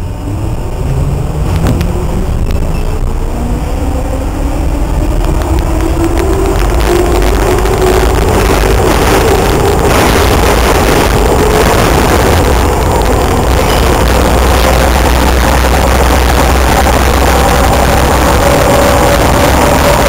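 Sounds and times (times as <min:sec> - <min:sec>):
deep rumble: 0:00.0 - 0:20.0
metro train whine: 0:00.0 - 0:20.0
wheel and rail noise: 0:00.0 - 0:20.0.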